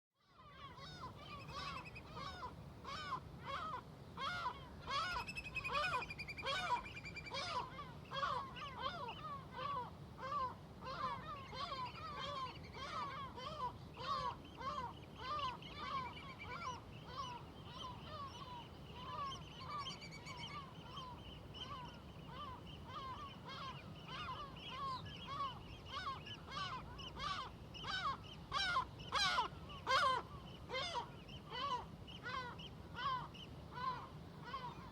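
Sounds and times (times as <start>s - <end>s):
seagulls calling: 0.3s - 34.9s.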